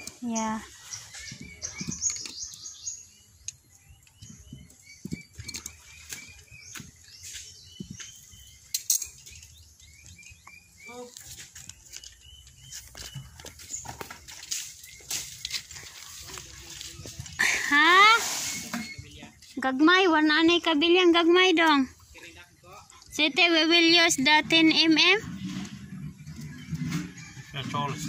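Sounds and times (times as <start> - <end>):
small birds chirping: 0.0 - 17.9, 18.5 - 28.0.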